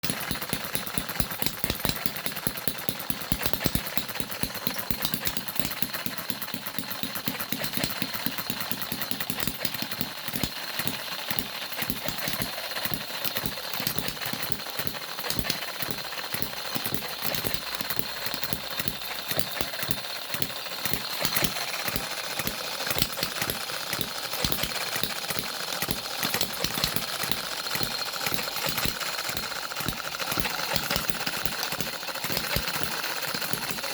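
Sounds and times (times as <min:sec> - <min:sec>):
engine running with sharp beats: 0:00.0 - 0:33.9.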